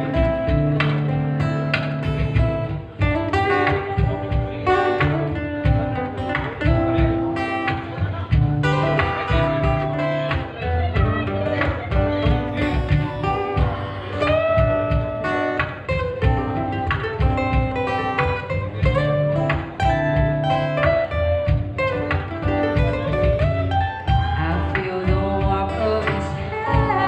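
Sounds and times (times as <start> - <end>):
acoustic guitar playing: 0.0 - 27.0
hand percussion beat: 0.0 - 27.0.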